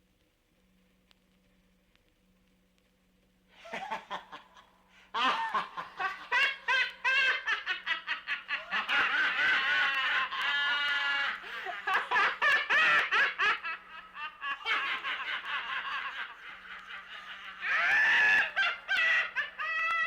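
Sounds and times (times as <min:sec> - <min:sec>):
faint low hum: 0:00.0 - 0:20.0
person laughing: 0:03.6 - 0:20.0.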